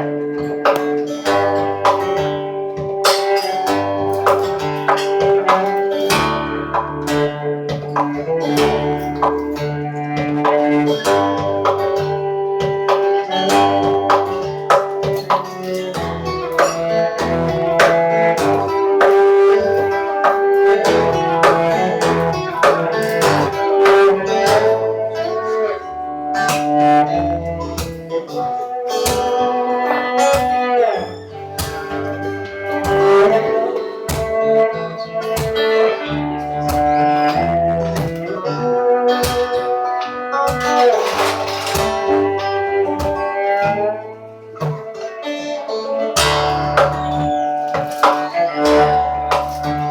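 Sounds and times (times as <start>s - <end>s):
acoustic guitar plucked notes: 0.0s - 49.9s
cello sustained notes: 0.0s - 49.9s.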